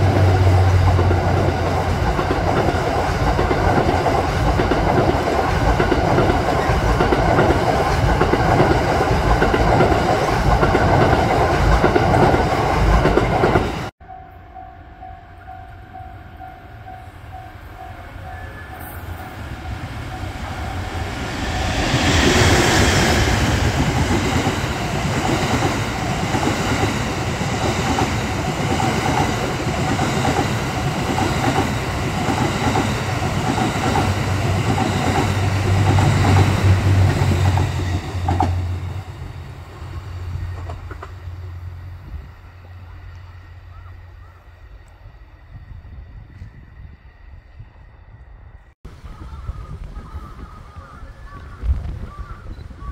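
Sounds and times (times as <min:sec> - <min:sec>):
train passing rumble: 0:00.0 - 0:50.0.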